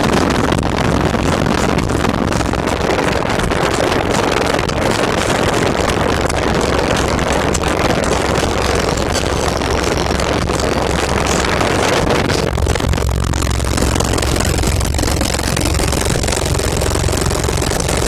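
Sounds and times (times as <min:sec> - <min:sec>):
distorted loud car bass: 0:00.0 - 0:18.0.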